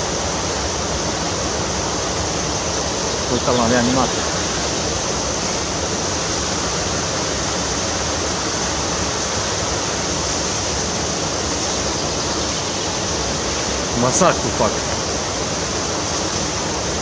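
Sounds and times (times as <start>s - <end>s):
rushing stream water: 0.0s - 17.0s.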